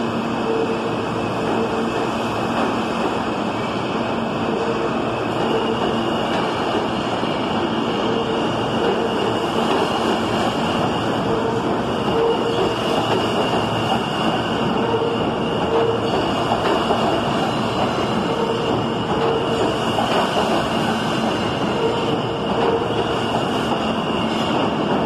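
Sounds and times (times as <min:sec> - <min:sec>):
subway train rumbling past: 0:00.0 - 0:25.0.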